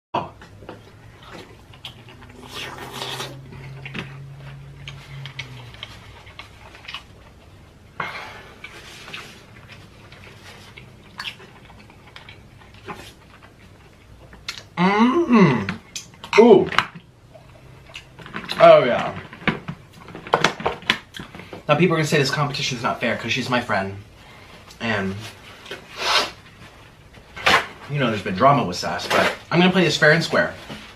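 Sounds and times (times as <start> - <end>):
crackling and rustling: 0.3 - 14.7, 15.6 - 22.9, 24.0 - 30.9.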